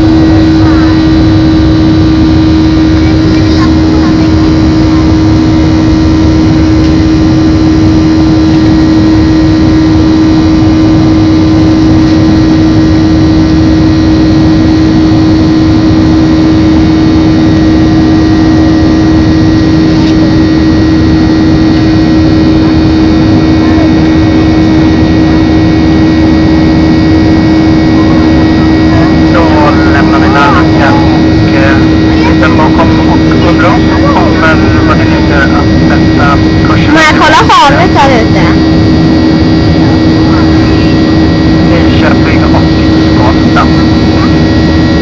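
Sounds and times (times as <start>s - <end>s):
jet engine noise in cabin: 0.0s - 45.0s.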